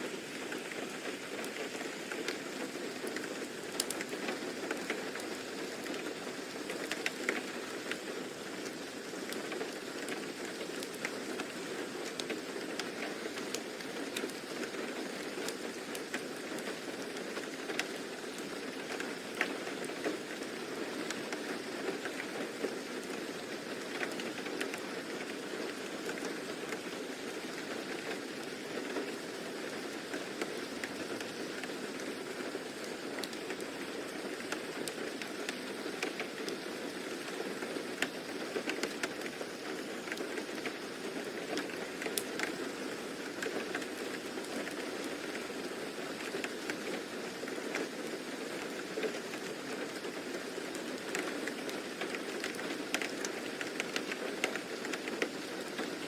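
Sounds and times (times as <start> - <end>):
rain hiss: 0.0 - 56.0
sharp rain ticks: 0.0 - 56.0.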